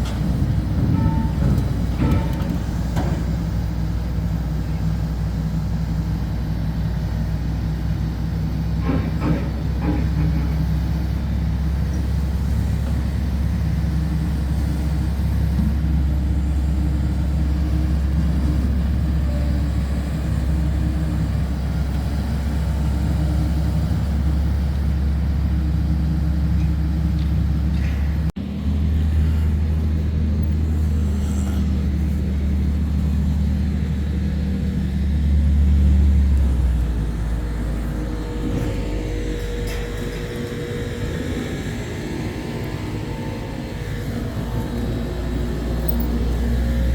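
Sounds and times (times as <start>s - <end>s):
heavy construction machinery rumble: 0.0s - 46.9s.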